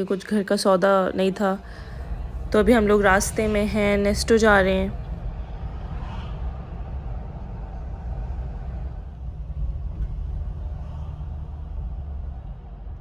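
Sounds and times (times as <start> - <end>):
car engine rumble: 1.6 - 13.0.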